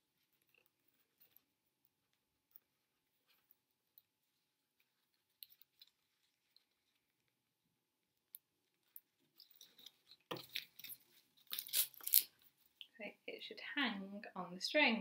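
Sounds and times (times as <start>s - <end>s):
string clicks and rustles: 0.0s - 13.0s.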